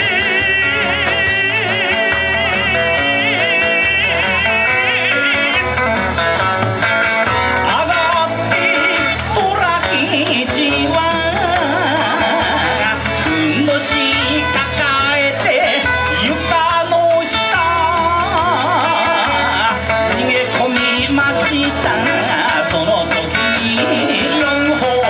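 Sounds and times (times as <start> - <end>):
guitar melody with bending notes: 0.0 - 25.0
person singing: 0.0 - 25.0
steady drum beat: 0.0 - 25.0.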